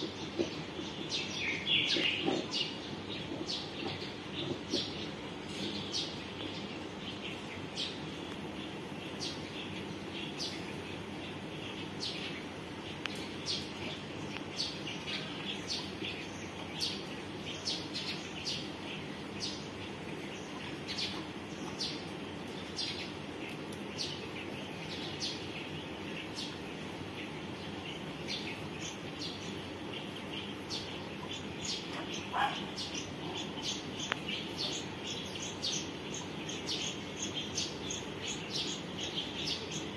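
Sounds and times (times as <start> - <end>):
low background noise: 0.0 - 39.9
small birds chirping: 0.0 - 39.9.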